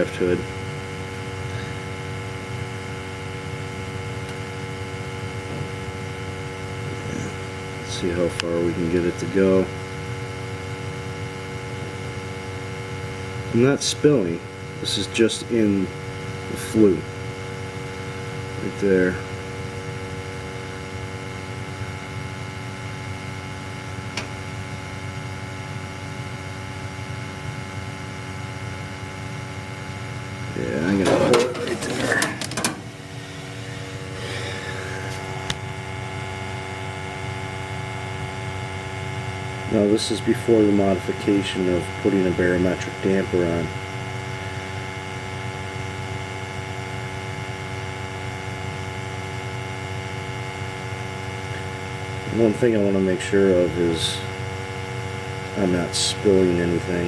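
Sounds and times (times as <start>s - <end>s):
gas boiler humming: 0.0s - 57.0s.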